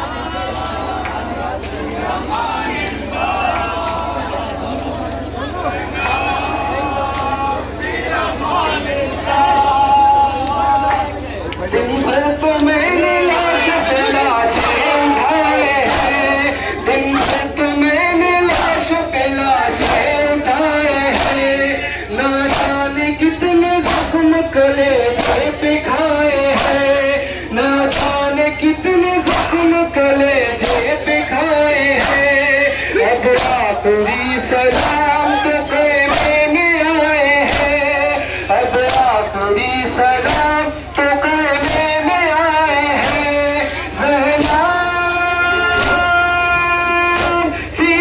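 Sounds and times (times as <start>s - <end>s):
men chanting a lament: 0.0s - 48.0s.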